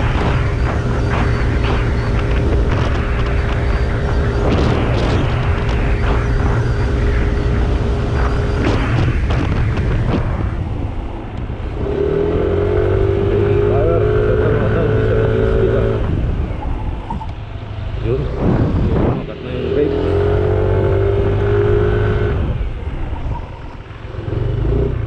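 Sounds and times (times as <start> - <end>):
scooter engine drone: 0.0 - 25.0
wind rushing over microphone: 0.0 - 25.0.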